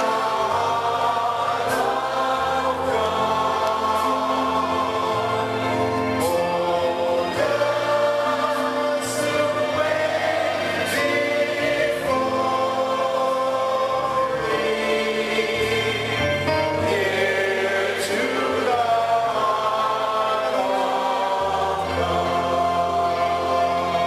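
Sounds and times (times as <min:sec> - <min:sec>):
choir and congregation singing: 0:00.0 - 0:24.0.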